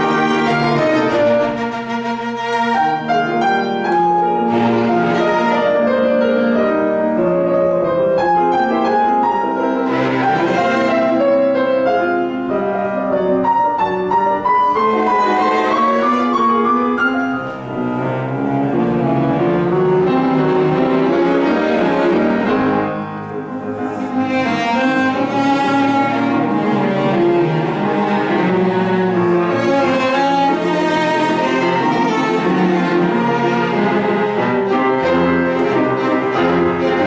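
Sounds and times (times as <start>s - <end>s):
bowed strings: 0.0s - 37.0s
piano: 0.0s - 37.0s.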